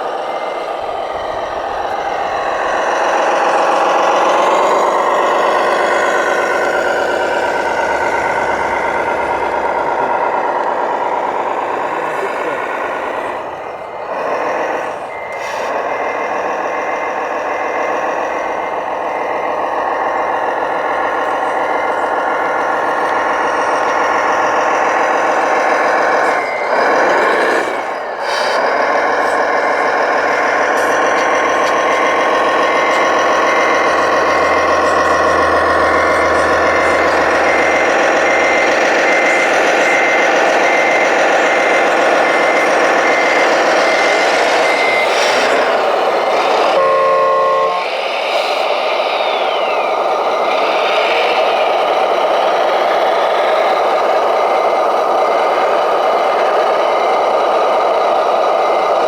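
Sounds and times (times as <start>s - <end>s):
reversing beeper beeping: 0.0s - 58.8s
simulated diesel engine: 0.0s - 59.0s.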